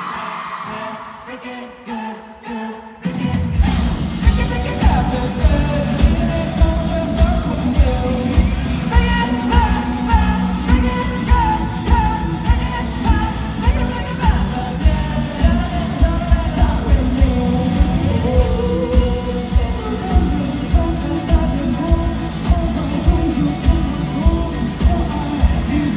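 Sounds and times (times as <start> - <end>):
sung vocals: 0.0 - 25.9
driving drum beat: 3.1 - 25.9
live rock band playing: 3.3 - 25.9.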